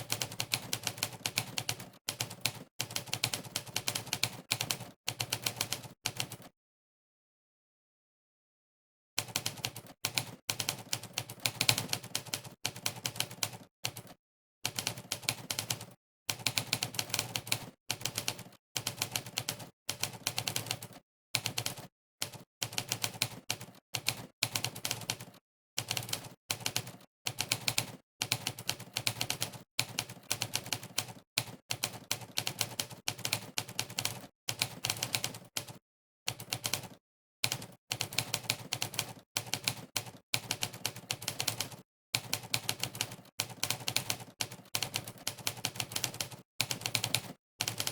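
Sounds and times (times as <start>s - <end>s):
typewriter keystroke clacks: 9.2s - 47.9s.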